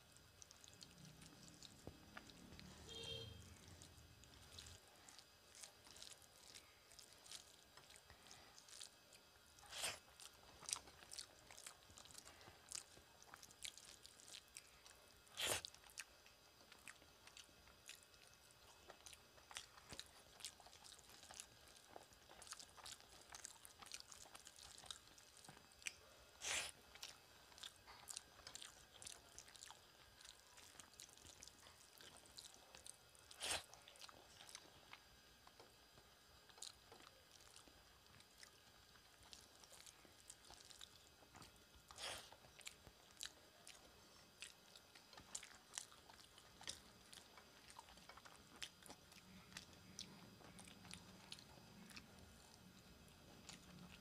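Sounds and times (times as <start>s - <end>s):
person chewing food: 0.1s - 54.0s.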